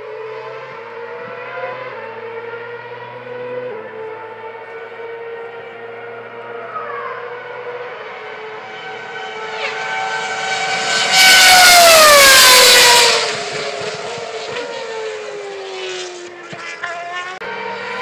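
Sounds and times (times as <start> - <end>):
racing car engine passing: 0.0 - 18.0.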